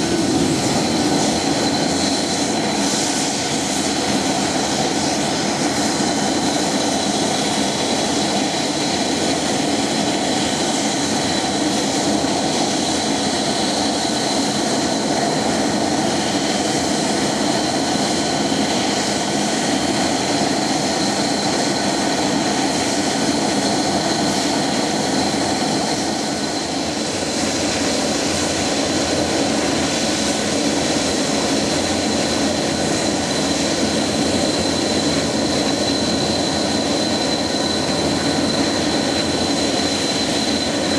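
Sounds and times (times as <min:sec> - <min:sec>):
jet engines idling: 0:00.0 - 0:40.9.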